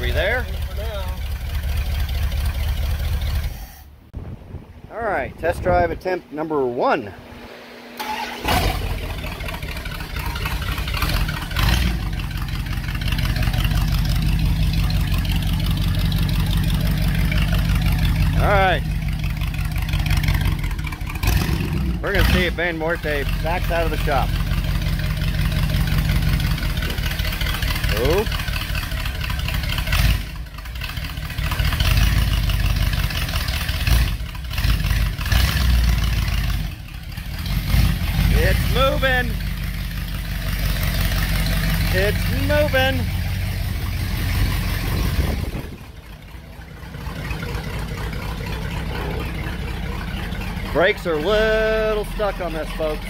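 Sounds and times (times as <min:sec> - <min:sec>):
van engine idling: 0:00.0 - 0:04.2, 0:04.9 - 0:53.0.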